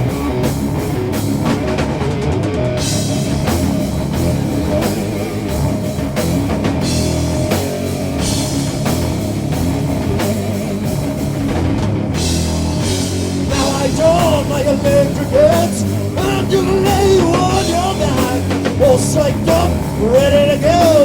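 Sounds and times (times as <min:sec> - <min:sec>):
metal band playing: 0:00.0 - 0:21.0.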